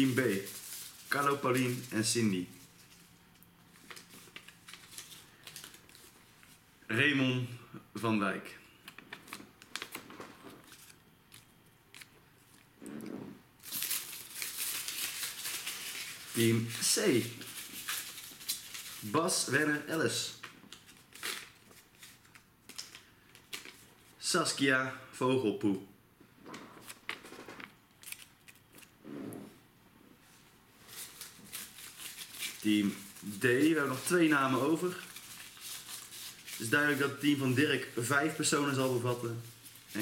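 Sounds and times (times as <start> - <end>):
paper rustling and crinkling: 0.0 - 6.6, 8.8 - 12.6, 13.6 - 24.1, 26.4 - 28.9, 30.3 - 40.0.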